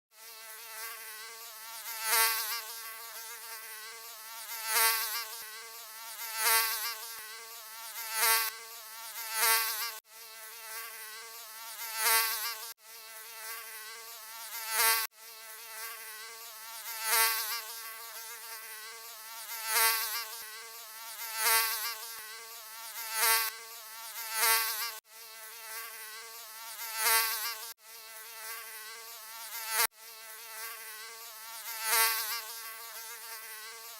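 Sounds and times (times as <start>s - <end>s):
mosquito buzzing: 0.1s - 33.9s.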